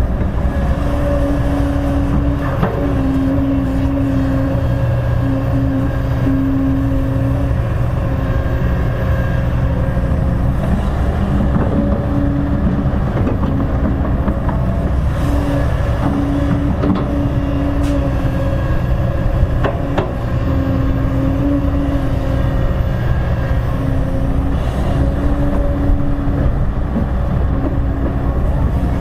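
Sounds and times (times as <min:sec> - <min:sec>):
excavator diesel engine under load: 0:00.0 - 0:29.0.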